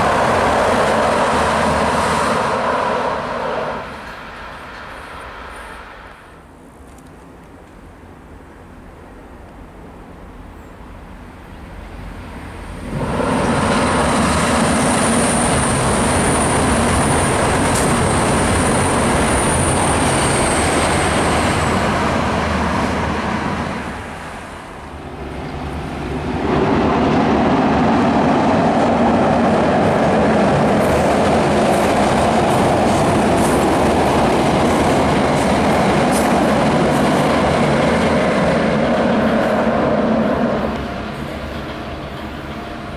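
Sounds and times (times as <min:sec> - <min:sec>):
diesel locomotives rumbling: 0:00.0 - 0:42.9
train rumbling over rail bridge: 0:00.0 - 0:42.9.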